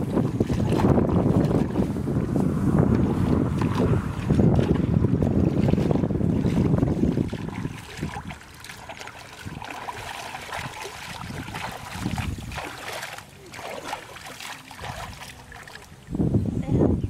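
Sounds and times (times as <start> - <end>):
hands splashing in muddy water: 0.0 - 2.0, 2.9 - 16.0.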